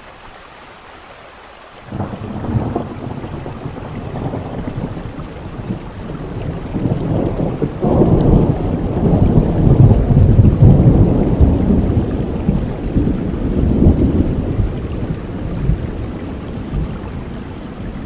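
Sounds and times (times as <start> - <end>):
steady rain: 0.0 - 18.0
thunder rumbling: 1.9 - 18.0.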